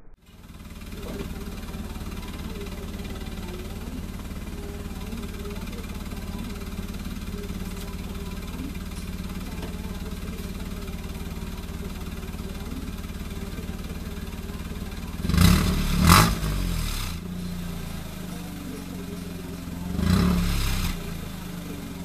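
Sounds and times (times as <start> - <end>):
car exhaust idling: 0.0 - 22.0
engine revving: 0.0 - 22.0.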